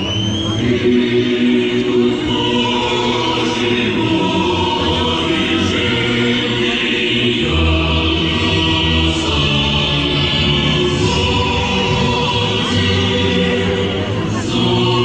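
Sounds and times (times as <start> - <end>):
crowd singing in unison: 0.0 - 15.0.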